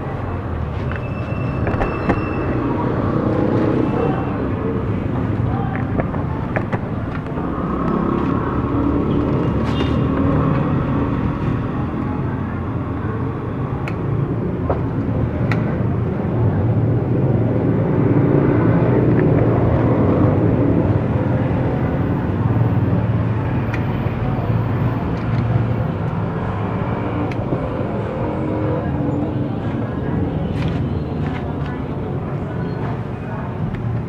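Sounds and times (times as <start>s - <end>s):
street traffic engine rumble: 0.0s - 34.0s.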